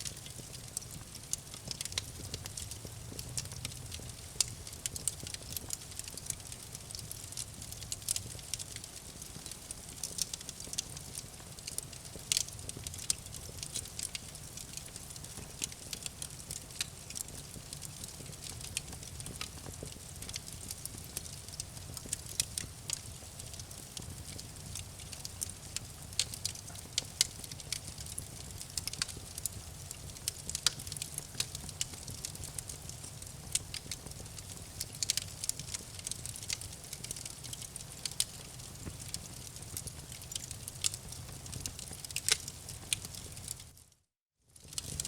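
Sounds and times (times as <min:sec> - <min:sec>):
campfire crackling and popping: 0:00.0 - 0:43.8, 0:44.6 - 0:45.0.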